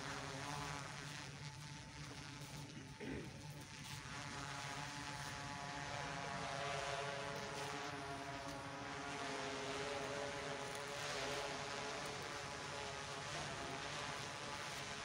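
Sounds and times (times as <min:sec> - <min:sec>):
motor drone: 0:00.0 - 0:15.0.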